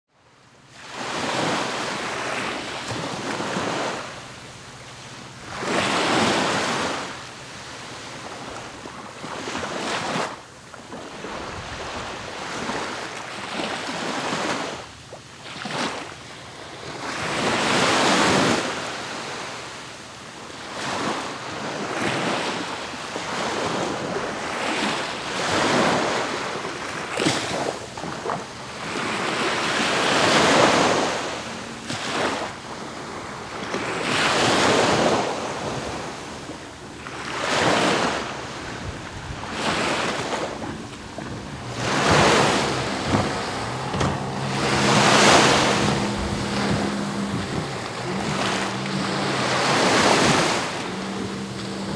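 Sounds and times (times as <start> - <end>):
surf breaking on beach: 0.7 - 4.3, 5.1 - 51.9.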